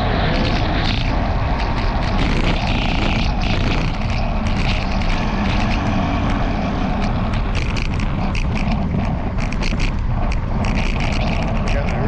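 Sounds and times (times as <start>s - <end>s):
wind rumbling on microphone: 0.0s - 12.0s
camera mount rattling: 0.4s - 12.0s.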